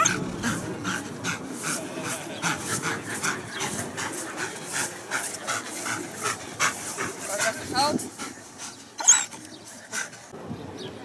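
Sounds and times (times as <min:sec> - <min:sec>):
dog panting: 0:00.0 - 0:10.4.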